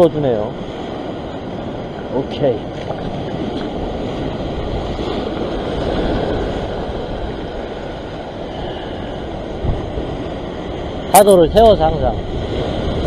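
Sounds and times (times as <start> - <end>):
sea surf washing over rocks: 0.0 - 13.0
wind buffeting microphone: 0.0 - 13.0.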